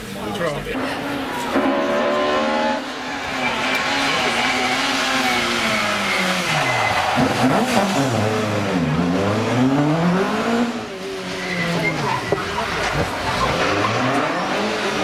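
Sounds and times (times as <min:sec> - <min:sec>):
rally car engine revving: 0:00.7 - 0:15.0.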